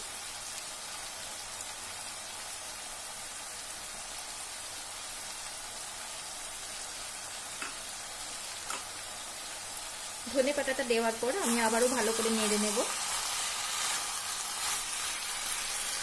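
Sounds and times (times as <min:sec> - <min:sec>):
vegetables sizzling: 0:00.0 - 0:16.0.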